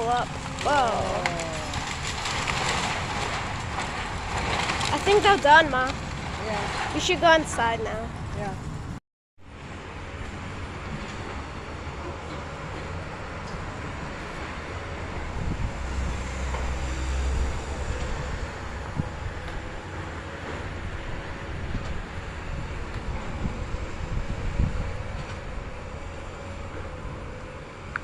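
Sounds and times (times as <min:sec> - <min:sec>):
diesel engine rumble: 0:00.0 - 0:28.0.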